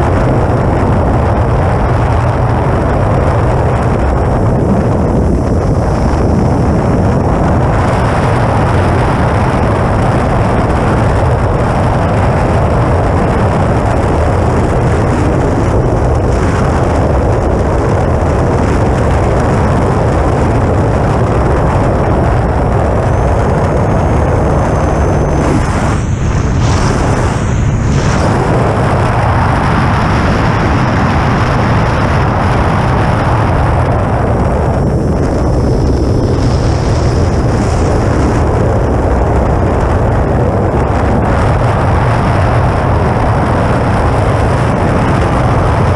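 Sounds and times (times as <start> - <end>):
faint high whine: 0.0 - 39.6
airflow rushing over camera: 0.0 - 45.9.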